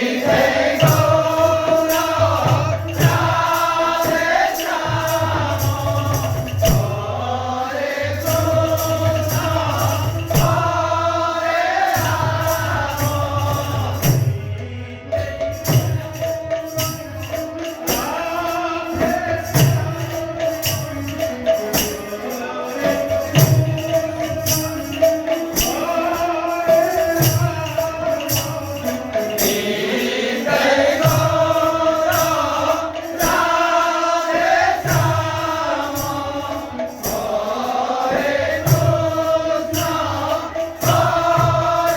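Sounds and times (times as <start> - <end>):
group singing a devotional chant: 0.0 - 41.9
jingling metal hand percussion: 0.0 - 41.9.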